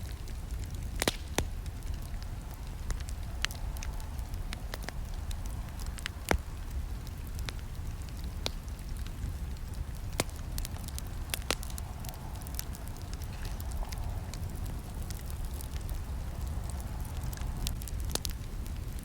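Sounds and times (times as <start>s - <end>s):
burning wood popping and snapping: 0.0s - 19.0s
flames rumbling: 0.0s - 19.0s.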